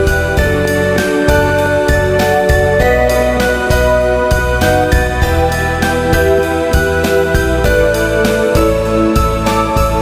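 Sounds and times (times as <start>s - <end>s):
steady bass line: 0.0s - 10.0s.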